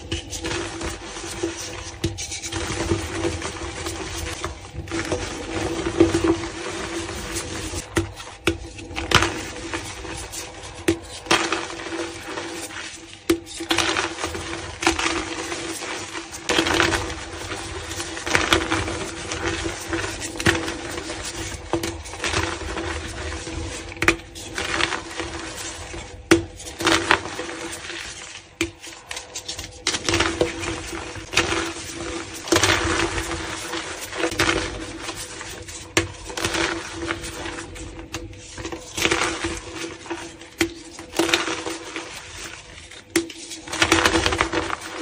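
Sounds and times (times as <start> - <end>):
chalk crunching and crumbling: 0.0 - 45.0.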